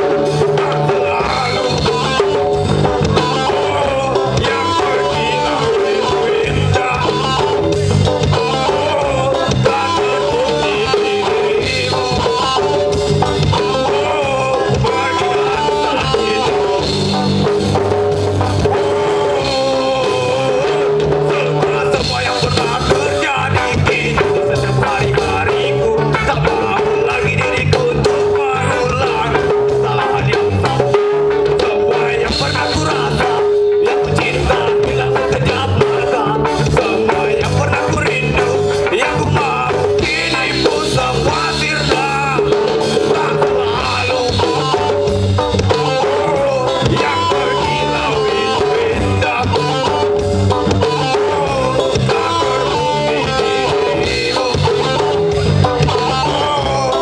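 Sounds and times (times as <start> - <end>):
live ska band playing: 0.0 - 57.0.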